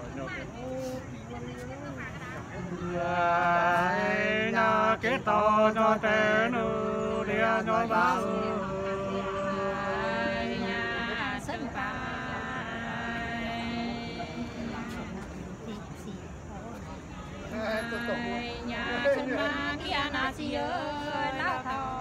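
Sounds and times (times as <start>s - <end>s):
men singing unaccompanied folk song: 2.6s - 15.8s, 17.3s - 22.0s.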